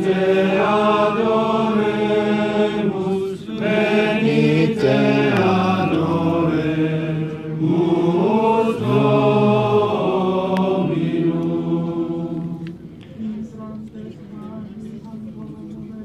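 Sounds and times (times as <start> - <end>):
choir chanting a hymn: 0.0 - 15.6.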